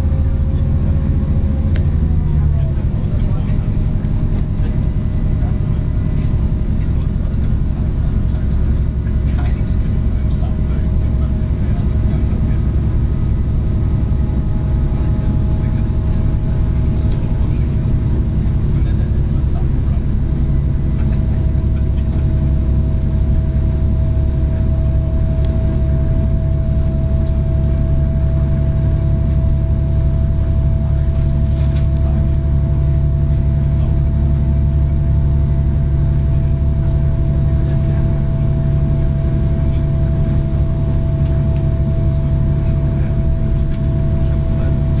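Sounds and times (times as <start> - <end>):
train diesel engine drone: 0.0 - 45.0.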